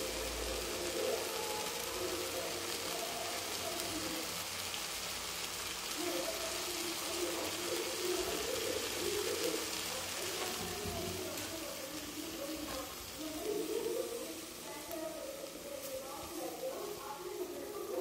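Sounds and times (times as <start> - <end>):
gravy sizzling softly: 0.0 - 18.0.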